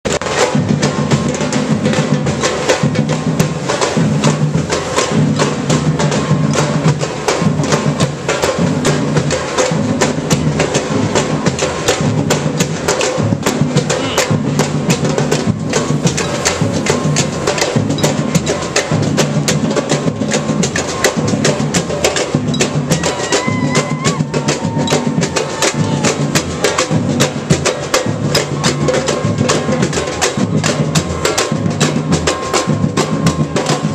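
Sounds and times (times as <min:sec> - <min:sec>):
driving drum beat: 0:00.0 - 0:33.9
marching band playing: 0:00.1 - 0:33.9.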